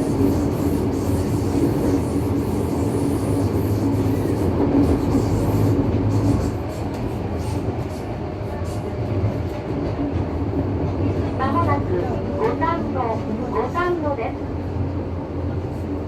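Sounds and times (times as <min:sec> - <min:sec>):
subway wheels rumbling on rails: 0:00.0 - 0:16.0.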